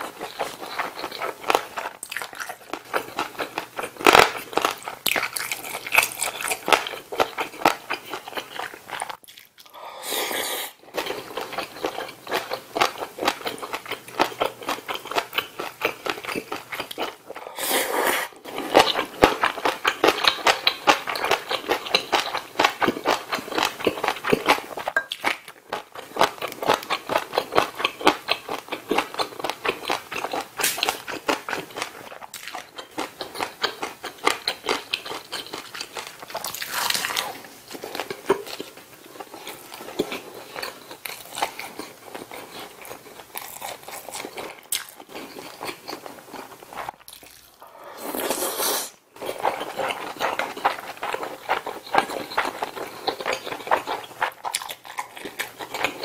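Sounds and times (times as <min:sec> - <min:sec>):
chewing and wet mouth sounds: 0:00.0 - 0:56.0.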